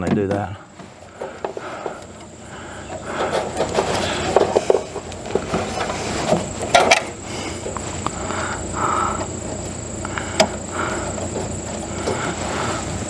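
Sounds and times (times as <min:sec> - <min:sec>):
hand tools clicking and knocking: 0:00.0 - 0:13.0.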